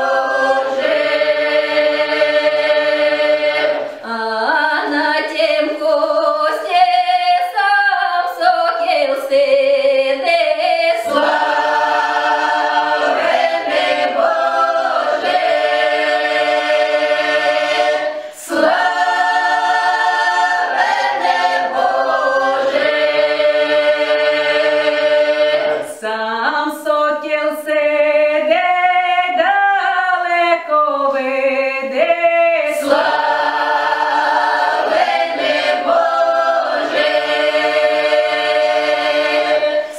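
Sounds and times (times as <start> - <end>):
choir singing a carol in harmony: 0.0 - 39.9.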